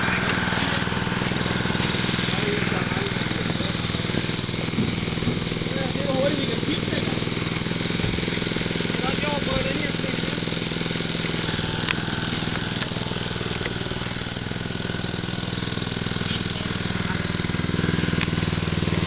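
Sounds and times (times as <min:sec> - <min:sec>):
power pack engine running: 0:00.0 - 0:19.0
sharp metallic clicks: 0:00.0 - 0:19.0.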